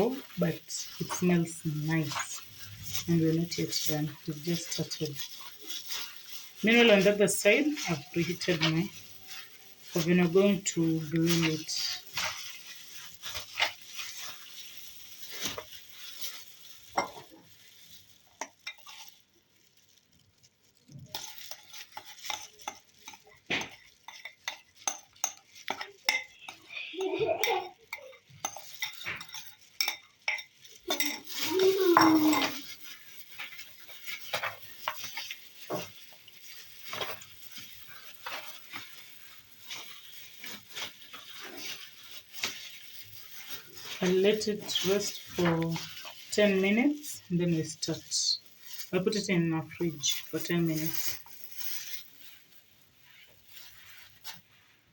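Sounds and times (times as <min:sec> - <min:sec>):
hands squelching raw meat: 0:00.0 - 0:26.8, 0:28.0 - 0:54.5.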